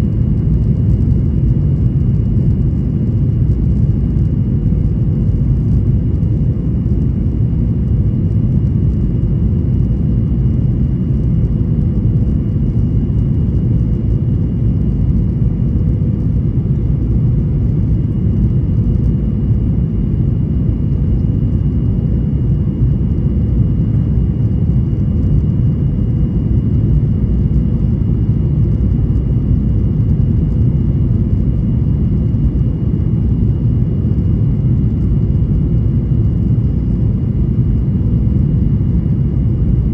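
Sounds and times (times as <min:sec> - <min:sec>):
airliner engine rumble: 0:00.0 - 0:39.9
faint steady whine: 0:00.0 - 0:39.9.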